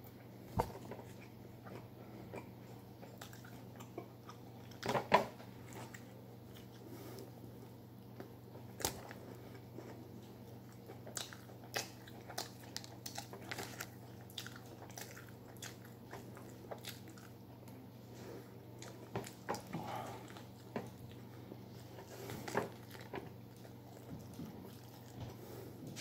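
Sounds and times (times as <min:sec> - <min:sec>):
man chewing food: 0:00.0 - 0:26.0.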